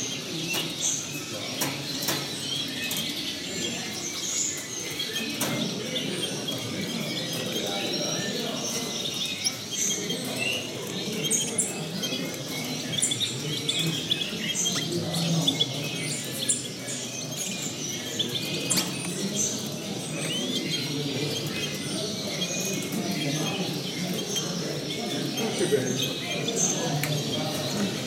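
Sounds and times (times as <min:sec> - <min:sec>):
low background murmur: 0:00.0 - 0:28.0
finches chirping: 0:00.1 - 0:28.0.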